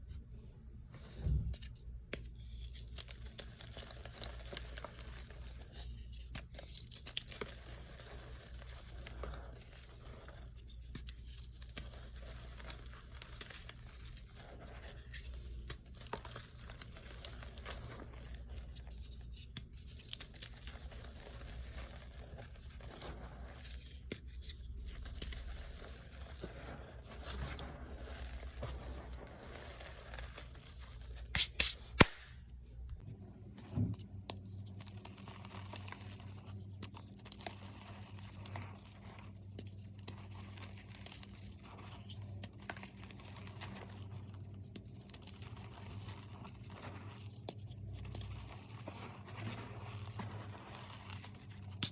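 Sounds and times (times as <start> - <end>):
chalk crunching and crumbling: 1.0 - 51.9.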